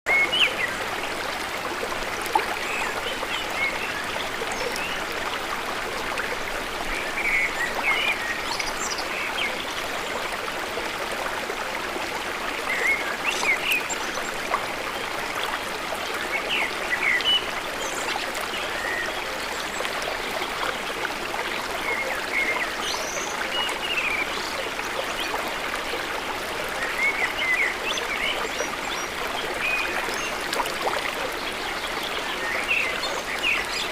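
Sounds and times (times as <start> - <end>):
flowing water: 0.1 - 33.9.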